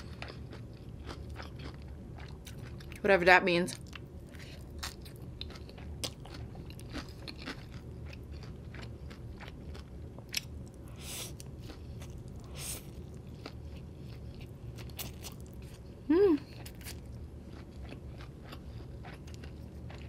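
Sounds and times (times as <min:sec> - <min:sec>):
chewing and slurping noodles: 0:00.0 - 0:03.0, 0:03.9 - 0:15.9, 0:16.6 - 0:20.0.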